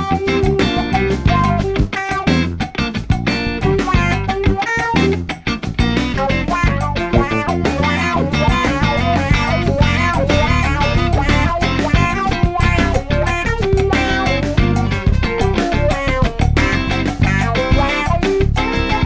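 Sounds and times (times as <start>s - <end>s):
live funk band playing: 0.0s - 19.0s.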